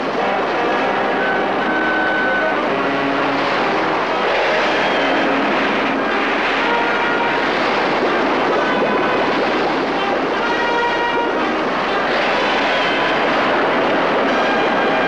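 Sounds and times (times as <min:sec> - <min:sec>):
loud rushing roar: 0:00.0 - 0:15.0.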